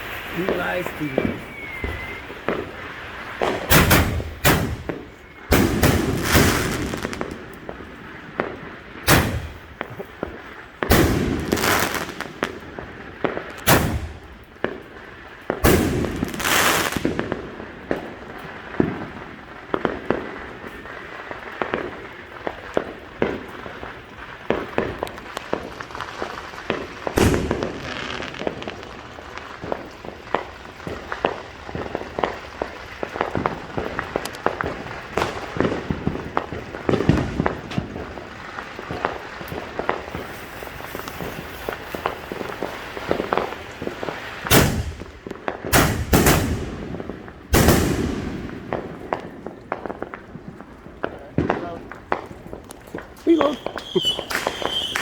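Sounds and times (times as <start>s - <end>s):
firework booms with crackle: 0.0s - 55.0s
small firework pops: 0.0s - 55.0s.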